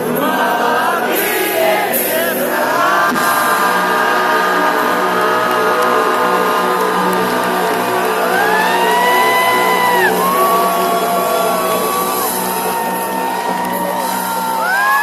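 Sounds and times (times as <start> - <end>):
long bending high notes: 0.9 - 15.0.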